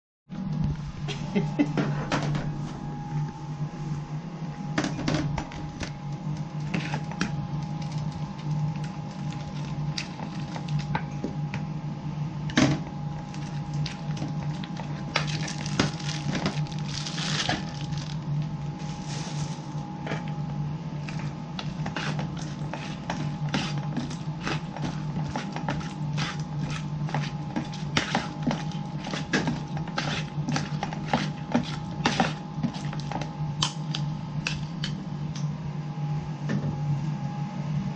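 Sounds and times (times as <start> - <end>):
kitchen equipment hum: 0.3 - 37.9.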